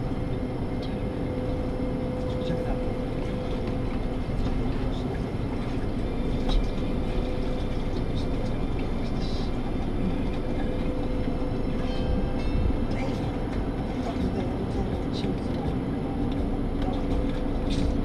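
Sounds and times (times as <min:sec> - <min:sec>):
constant hum: 0:00.0 - 0:18.0
mechanical rumble: 0:00.0 - 0:18.0.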